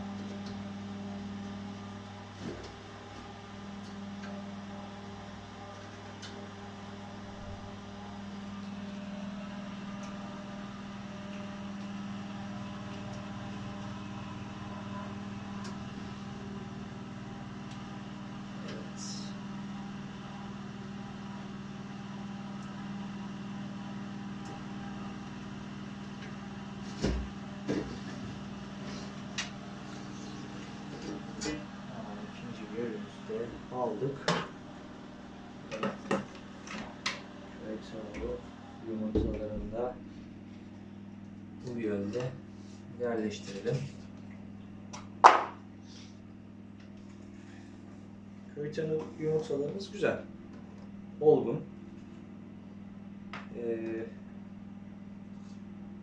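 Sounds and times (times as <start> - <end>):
incubator electric hum: 0.0 - 56.0.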